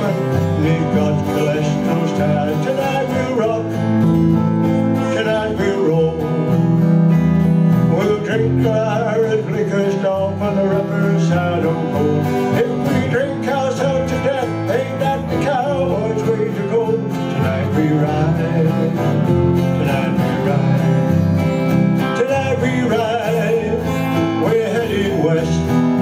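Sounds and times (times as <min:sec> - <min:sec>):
electric bass notes: 0:00.0 - 0:26.0
electric guitar: 0:00.0 - 0:26.0
strummed acoustic guitar: 0:00.0 - 0:26.0.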